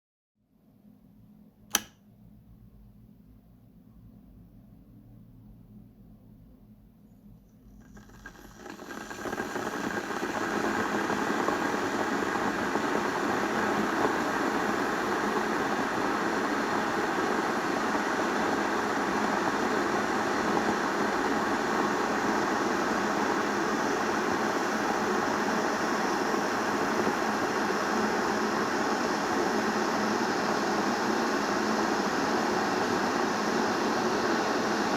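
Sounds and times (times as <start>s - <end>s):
electric kettle heating water: 1.3s - 2.4s, 7.5s - 34.9s.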